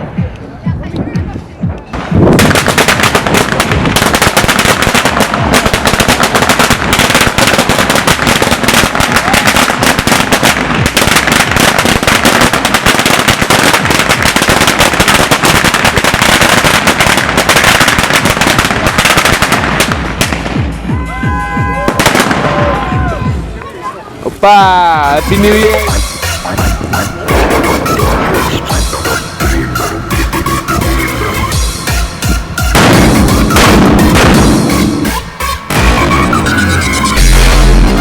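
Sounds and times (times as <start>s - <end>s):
firecrackers going off: 1.7s - 38.0s.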